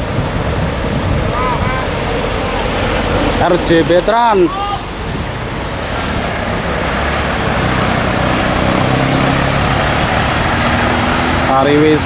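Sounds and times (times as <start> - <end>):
low engine drone: 0.0 - 11.5
tyre and road noise: 0.0 - 12.0.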